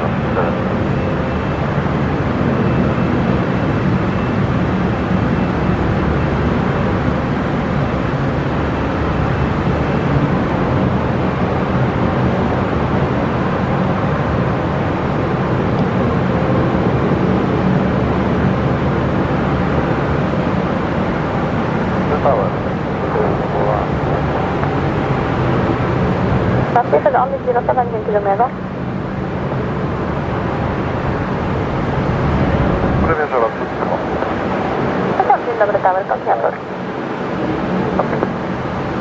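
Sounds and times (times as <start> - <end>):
jet airliner engine noise: 0.0 - 39.0.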